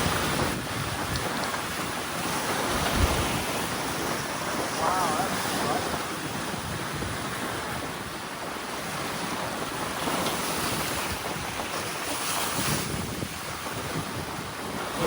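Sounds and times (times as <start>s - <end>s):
sea water and waves rushing: 0.0s - 15.0s
wind buffeting microphone: 0.0s - 15.0s.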